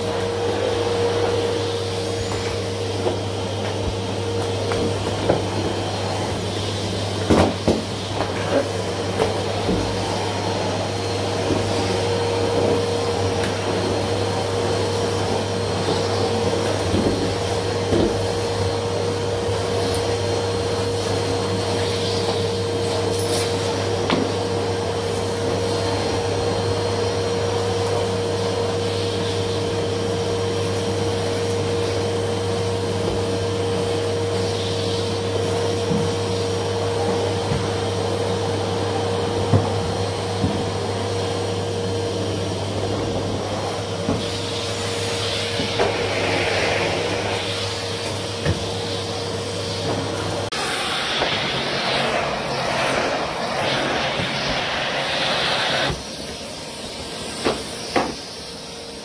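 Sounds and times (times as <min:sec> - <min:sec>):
vacuum cleaner humming: 0:00.0 - 0:59.0.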